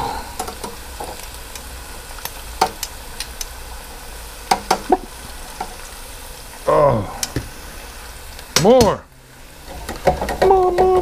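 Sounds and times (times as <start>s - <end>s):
deep-frying sizzle in hot oil: 0.0s - 11.0s.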